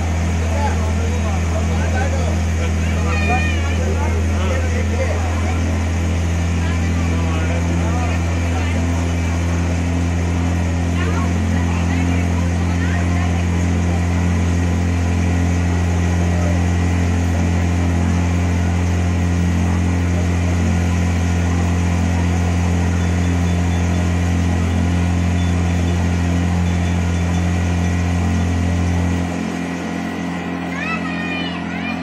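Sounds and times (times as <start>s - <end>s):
motorboat engine droning: 0.0s - 32.0s.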